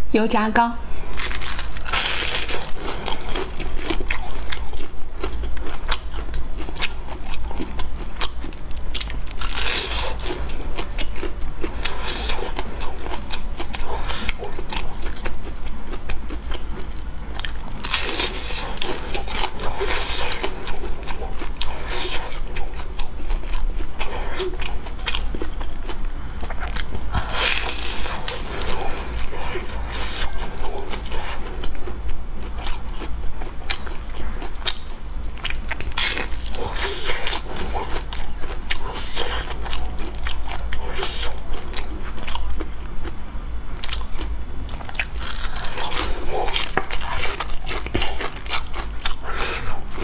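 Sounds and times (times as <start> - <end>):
person chewing crunchy food: 1.0 - 43.2, 43.8 - 50.0.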